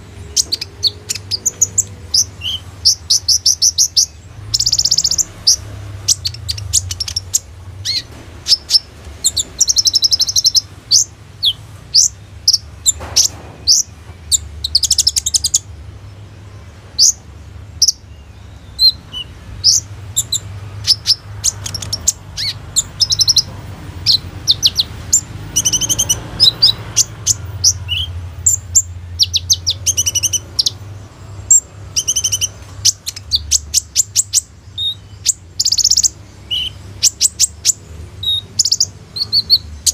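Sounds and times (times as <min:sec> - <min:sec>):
sunbird chirping and trilling: 0:00.0 - 0:39.9.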